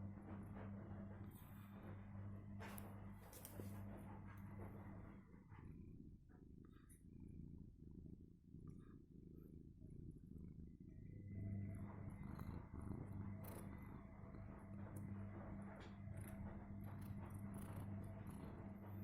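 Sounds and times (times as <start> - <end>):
cat purring: 0.0 - 19.0
steady low hum: 0.0 - 19.0.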